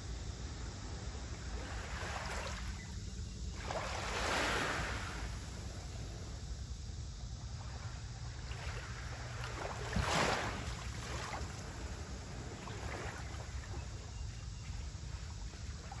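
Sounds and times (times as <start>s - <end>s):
wind rumble on microphone: 0.0s - 16.0s
small waves lapping on shore: 0.1s - 16.0s.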